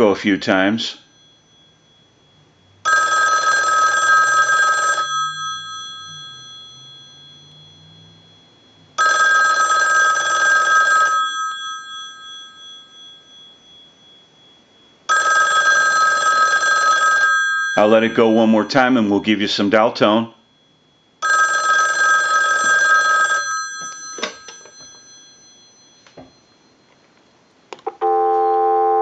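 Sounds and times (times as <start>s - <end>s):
telephone bell ringing: 1.0s - 18.9s, 20.5s - 29.0s.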